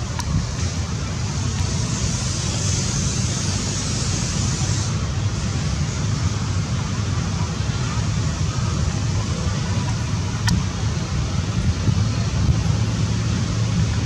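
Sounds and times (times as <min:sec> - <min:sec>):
hiss: 0:00.0 - 0:14.0
low outdoor rumble: 0:00.0 - 0:14.0.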